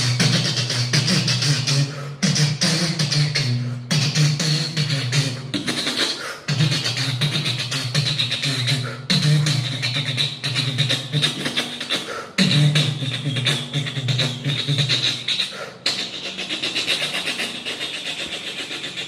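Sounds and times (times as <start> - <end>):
man imitating a train with voice: 0.0 - 19.0.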